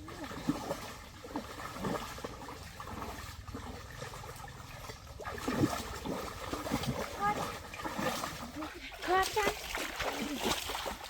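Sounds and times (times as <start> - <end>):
light water splashes: 0.0 - 11.0
water trickling and sloshing: 0.0 - 11.0.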